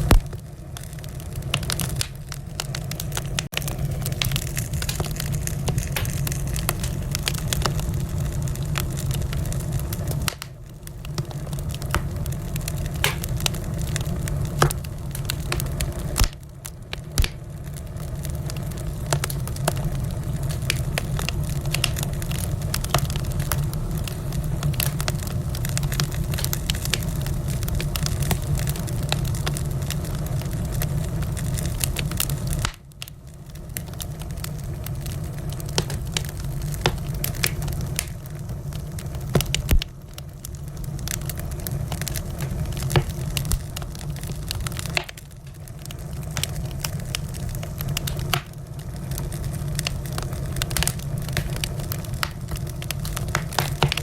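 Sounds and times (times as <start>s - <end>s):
fire roaring: 0.0s - 54.0s
logs crackling and popping: 0.0s - 54.0s.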